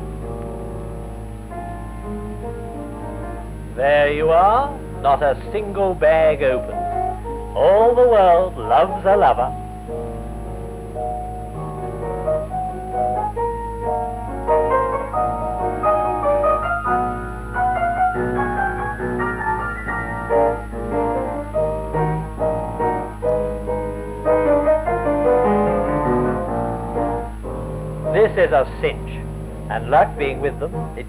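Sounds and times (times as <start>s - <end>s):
lively piano melody: 0.0s - 31.0s
low steady hum: 0.0s - 31.0s.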